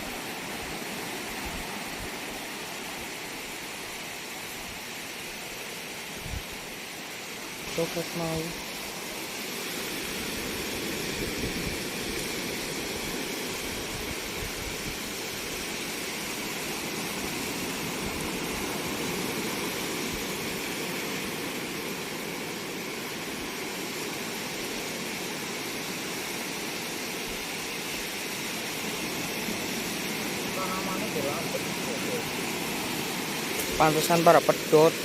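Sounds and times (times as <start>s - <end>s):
waves on rocky shore: 0.0s - 35.0s.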